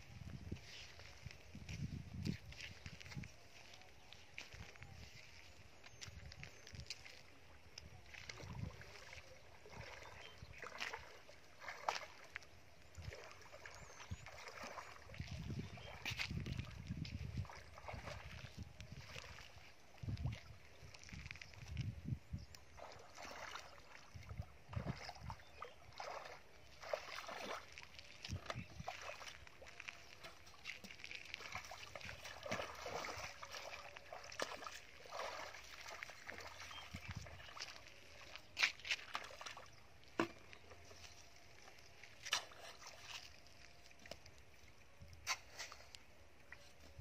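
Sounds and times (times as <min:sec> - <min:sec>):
bare feet wading through water: 0:00.0 - 0:47.0
water sloshing and splashing: 0:00.2 - 0:47.0.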